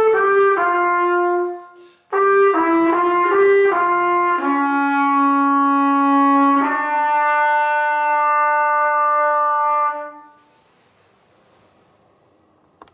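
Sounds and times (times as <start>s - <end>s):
solo brass instrument: 0.0s - 10.6s.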